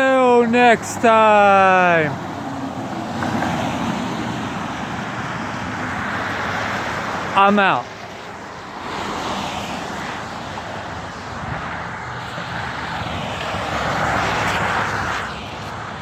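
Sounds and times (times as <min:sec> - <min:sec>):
rushing vehicle noise: 0:00.0 - 0:16.0.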